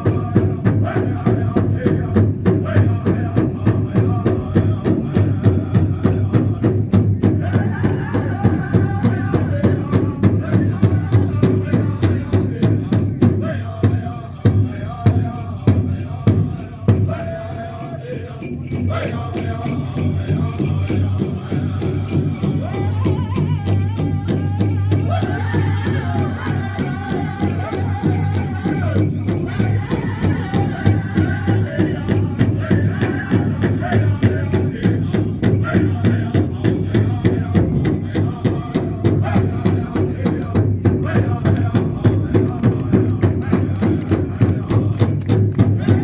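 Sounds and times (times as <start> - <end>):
high-pitched group singing: 0.0 - 46.0.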